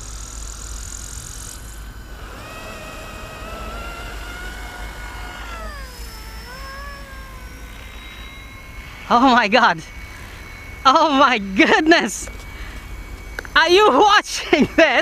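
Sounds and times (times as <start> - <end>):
rc helicopter motor and rotors whining: 0.0 - 15.0.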